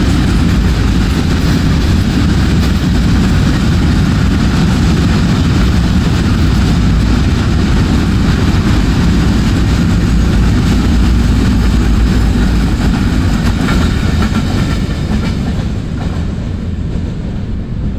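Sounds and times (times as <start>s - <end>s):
freight train wheels rumbling on rail: 0.0s - 17.9s
wheels clickety-clack: 0.0s - 17.9s.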